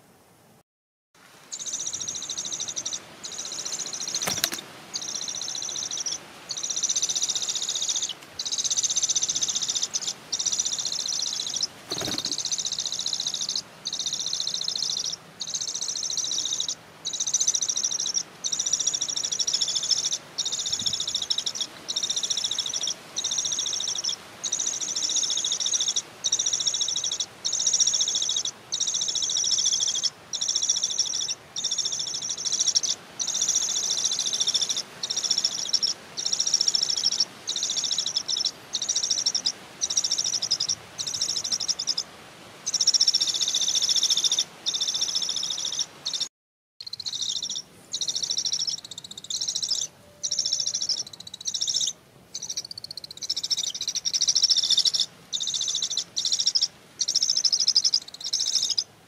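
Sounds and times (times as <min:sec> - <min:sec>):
parakeet chicks begging calls: 0:01.6 - 0:42.0, 0:42.7 - 0:46.2, 0:46.8 - 0:58.8.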